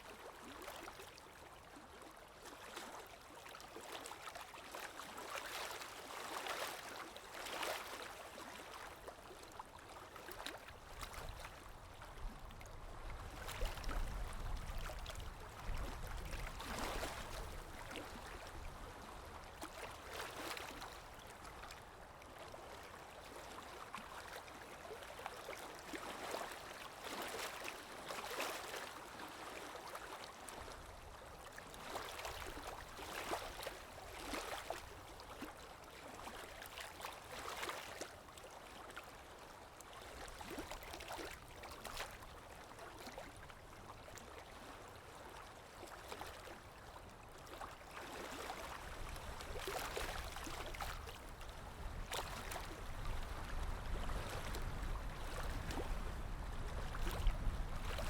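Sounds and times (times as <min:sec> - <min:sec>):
water lapping: 0:00.1 - 0:58.0.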